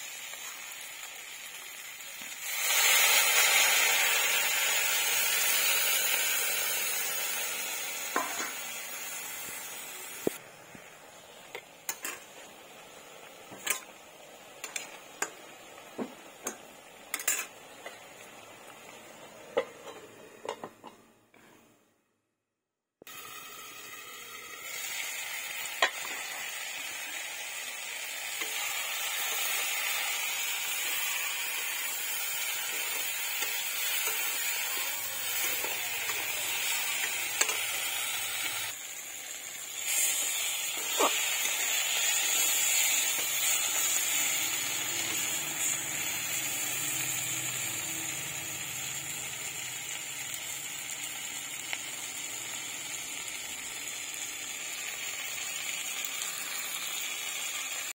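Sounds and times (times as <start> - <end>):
vegetables sizzling in oil: 0.0 - 21.0, 23.1 - 57.9.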